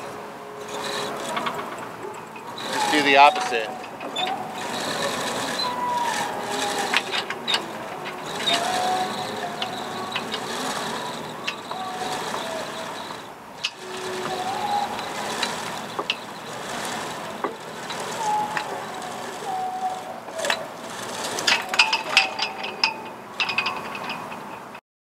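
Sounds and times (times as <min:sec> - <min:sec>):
ratchet-like clicks: 0:00.0 - 0:24.8
rigging lines squeaking: 0:00.0 - 0:24.8.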